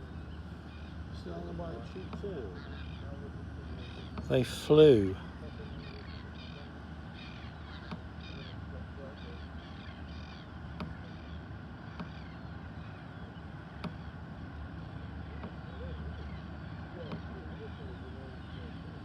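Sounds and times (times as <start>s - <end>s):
birds calling harsh notes: 0.0s - 19.0s.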